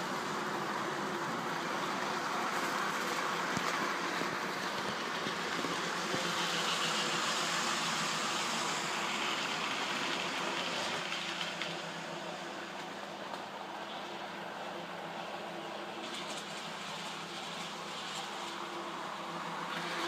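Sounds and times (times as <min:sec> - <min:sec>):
small wheels rattling on track: 0:00.0 - 0:12.9, 0:15.9 - 0:20.0.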